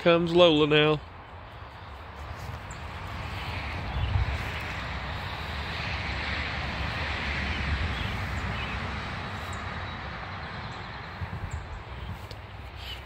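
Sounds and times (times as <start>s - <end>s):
vehicle passing: 1.3s - 13.0s.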